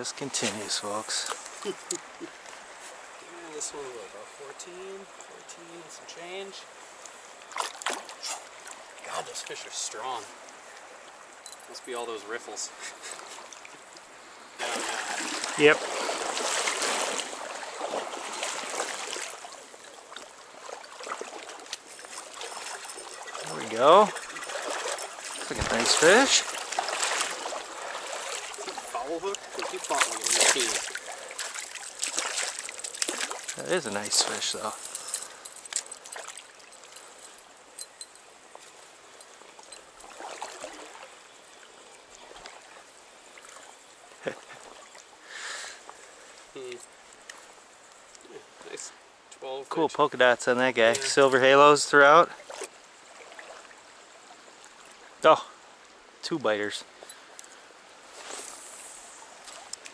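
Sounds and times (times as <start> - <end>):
river water rushing: 0.0 - 49.3, 50.7 - 59.9
small water splashes: 6.8 - 12.0, 13.0 - 48.9, 50.7 - 56.0, 56.8 - 59.9.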